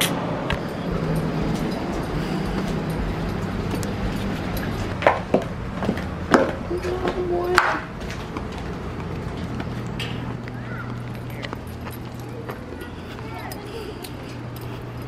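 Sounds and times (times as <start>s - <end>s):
steady low hum: 0.1s - 15.0s
sandal footsteps on metal stairs: 0.5s - 15.0s.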